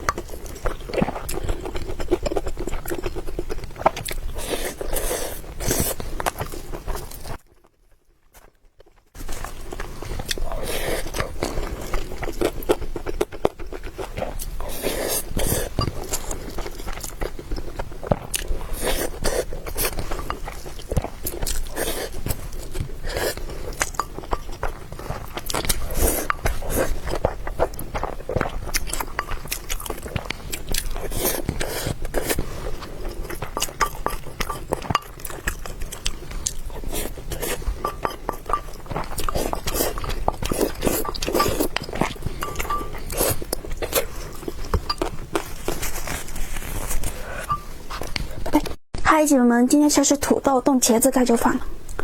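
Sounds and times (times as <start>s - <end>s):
person chewing food: 0.0s - 48.8s.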